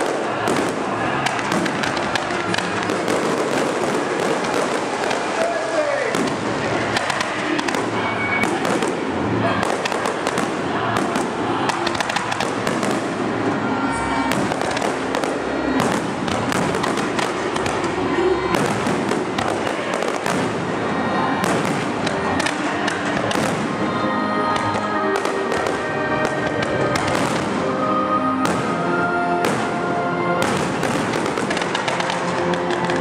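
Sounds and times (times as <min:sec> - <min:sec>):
fireworks bangs and crackles: 0:00.0 - 0:33.0
music playing: 0:00.0 - 0:33.0.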